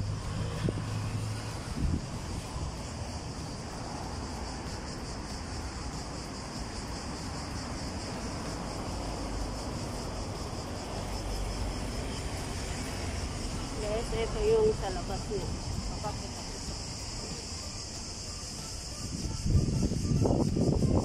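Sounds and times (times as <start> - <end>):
high insect trill: 0.0 - 21.0
low rumble of city traffic: 0.0 - 21.0.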